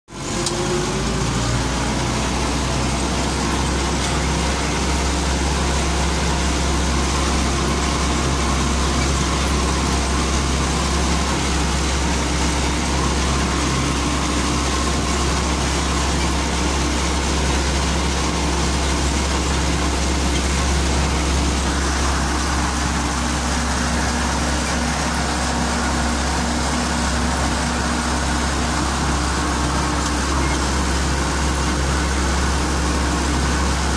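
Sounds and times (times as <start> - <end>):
tractor diesel engine drone: 0.1 - 33.9.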